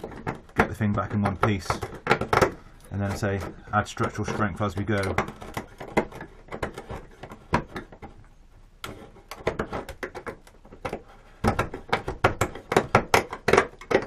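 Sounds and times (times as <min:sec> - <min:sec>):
craft knife scraping: 0:00.0 - 0:08.2, 0:08.8 - 0:14.0.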